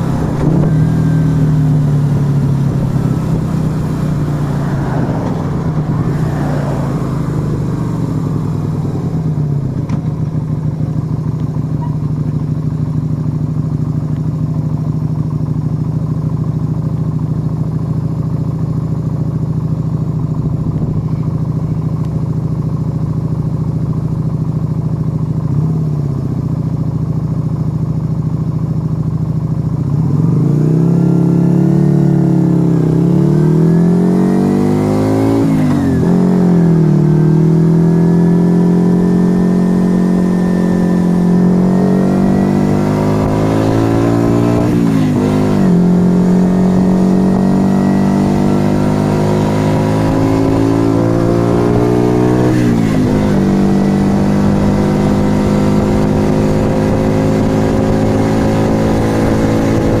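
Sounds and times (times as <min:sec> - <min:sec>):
motorcycle engine shifting gears: 0:00.0 - 1:00.0.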